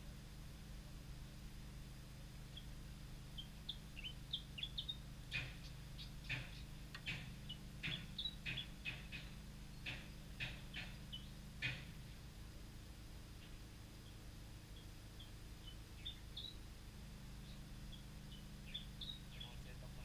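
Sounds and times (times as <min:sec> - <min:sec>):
birds chirping: 0:02.3 - 0:12.6, 0:13.2 - 0:20.0.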